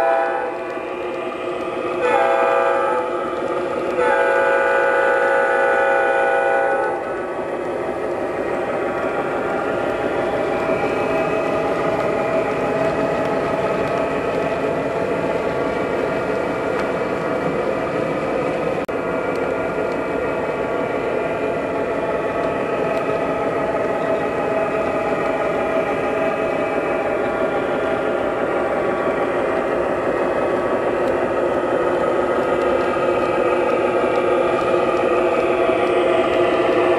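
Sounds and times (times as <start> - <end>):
model train cars rolling on track: 0.0 - 36.9.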